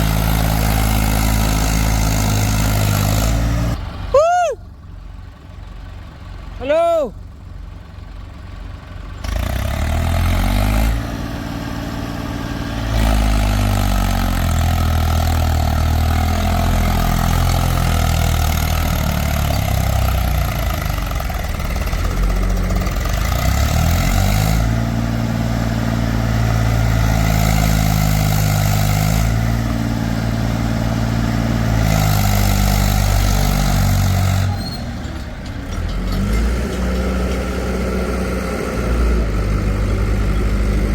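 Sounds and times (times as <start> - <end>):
heavy diesel engine revving: 0.0 - 4.1, 8.7 - 40.9.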